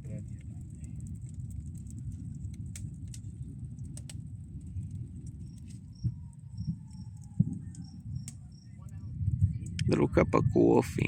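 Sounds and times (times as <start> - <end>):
low rumbling wind noise: 0.0 - 11.0.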